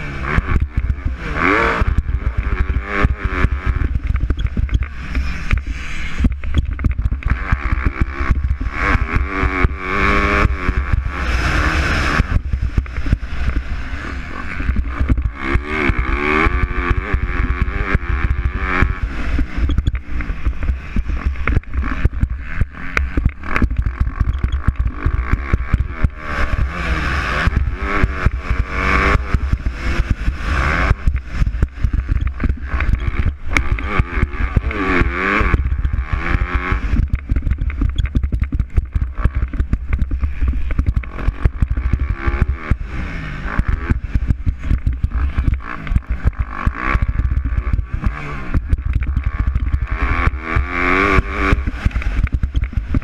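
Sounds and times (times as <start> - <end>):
motocross bikes revving: 0.0 - 53.0.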